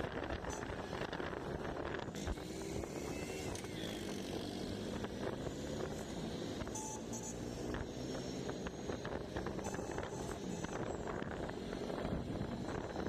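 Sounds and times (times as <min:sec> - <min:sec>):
auto-rickshaw engine running: 0:00.0 - 0:13.0
road noise: 0:00.0 - 0:13.0.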